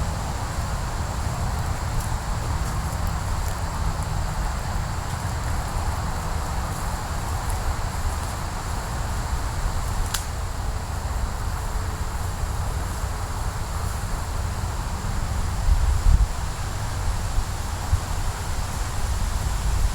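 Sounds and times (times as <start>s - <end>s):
high insect drone: 0.0s - 19.9s
wind rumble on microphone: 0.0s - 19.9s.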